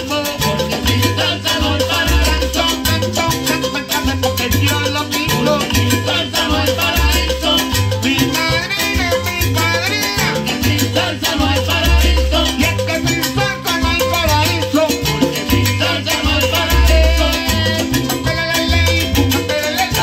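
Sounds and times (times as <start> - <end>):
congas: 0.0 - 20.0
upright bass: 0.0 - 20.0.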